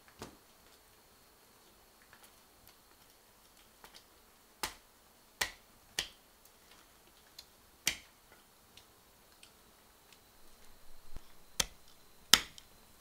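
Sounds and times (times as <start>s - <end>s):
campfire crackling and popping: 1.7s - 12.8s.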